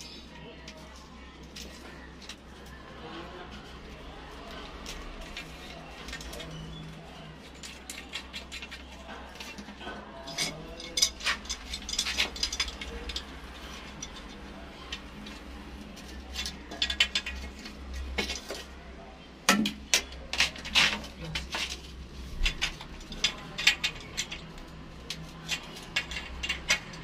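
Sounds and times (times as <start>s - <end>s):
tools and pipe fittings clinking: 4.6s - 18.8s, 19.5s - 27.0s.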